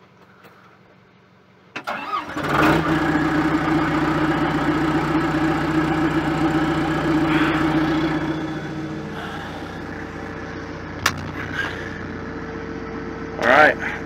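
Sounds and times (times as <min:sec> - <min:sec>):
diesel engine cranking: 0:01.8 - 0:14.0
diesel engine idling: 0:01.9 - 0:14.0.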